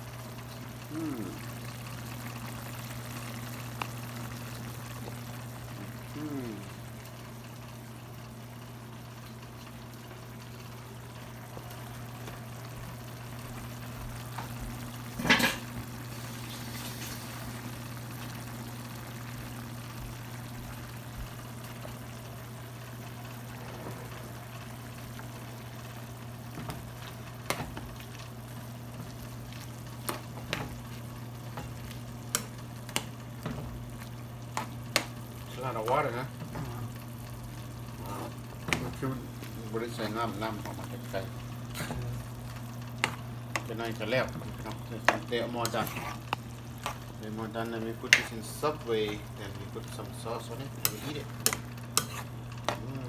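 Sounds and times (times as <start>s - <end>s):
food bubbling in a pan: 0.0s - 53.0s.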